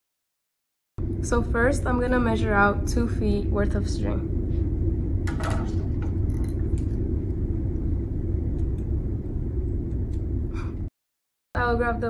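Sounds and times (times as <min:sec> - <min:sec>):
low background rumble: 0:01.0 - 0:10.9, 0:11.6 - 0:12.0.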